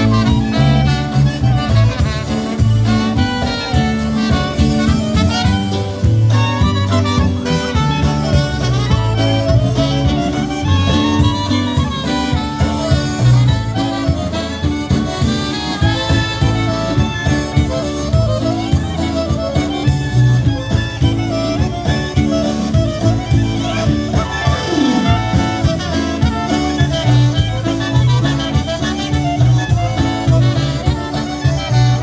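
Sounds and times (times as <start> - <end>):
polka band playing: 0.0 - 32.0.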